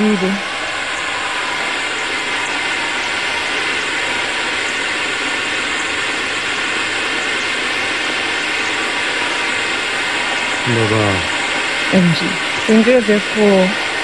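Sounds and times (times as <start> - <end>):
faint steady tones: 0.0 - 14.0.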